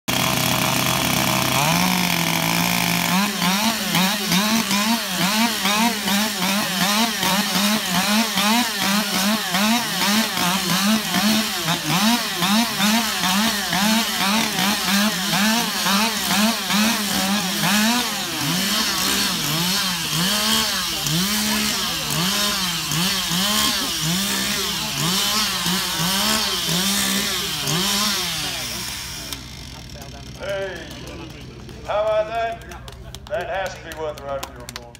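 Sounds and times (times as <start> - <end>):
chainsaws revving: 0.0 - 34.9.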